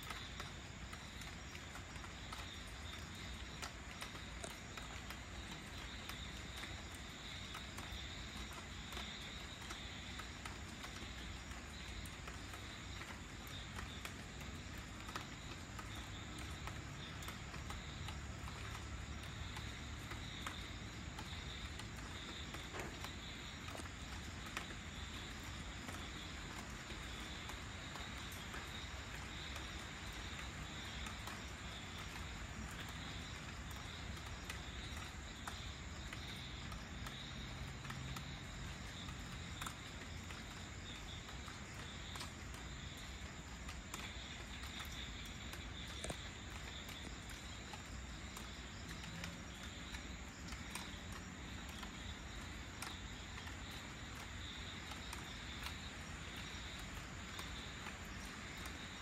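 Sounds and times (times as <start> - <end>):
insects trilling: 0.0 - 59.0
light rain falling: 0.0 - 59.0
small water drips: 0.0 - 59.0.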